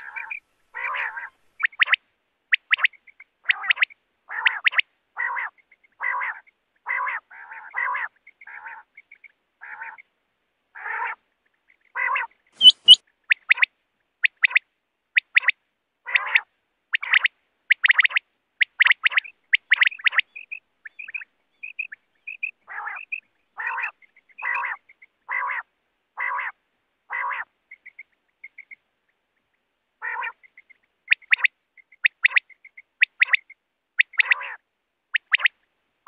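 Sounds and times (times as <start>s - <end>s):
quail calling: 0.0s - 10.1s, 10.7s - 14.6s, 15.2s - 28.8s, 30.0s - 35.6s.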